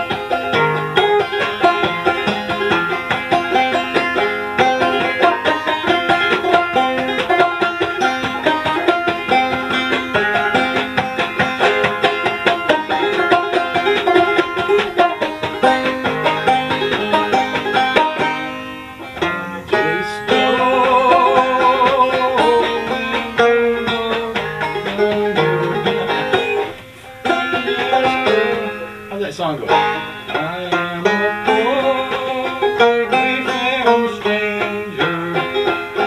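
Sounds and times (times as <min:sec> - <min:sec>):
banjo plucked notes: 0:00.0 - 0:36.0.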